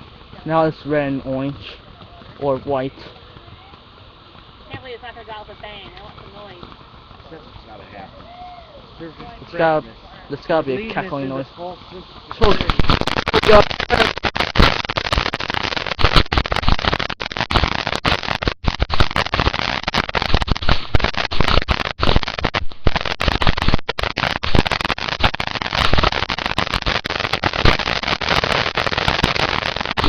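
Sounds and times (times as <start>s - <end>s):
firework fountain crackling: 0.0s - 30.0s.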